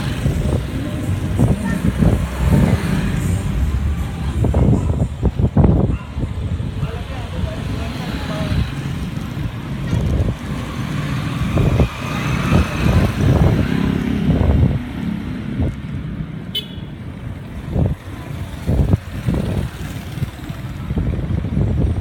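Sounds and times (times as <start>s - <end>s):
street traffic rumbling: 0.0s - 22.0s.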